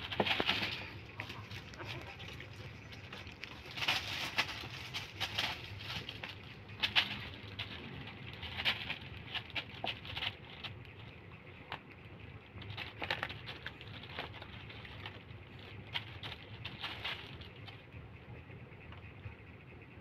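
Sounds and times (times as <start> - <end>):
plastic bag crinkling: 0.0 - 11.1, 12.6 - 17.7
low steady hum: 0.0 - 20.0.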